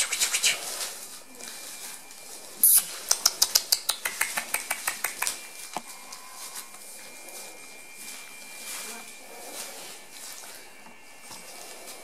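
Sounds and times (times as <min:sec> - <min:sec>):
shredded paper rustling and crackling: 0:00.3 - 0:03.1, 0:05.1 - 0:12.0.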